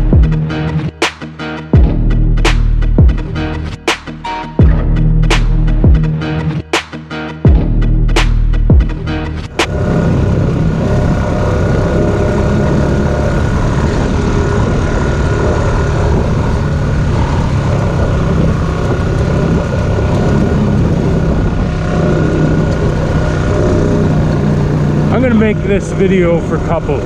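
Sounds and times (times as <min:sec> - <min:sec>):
atv engine running: 0:00.0 - 0:01.0, 0:01.7 - 0:03.8, 0:04.6 - 0:06.5, 0:07.5 - 0:27.0.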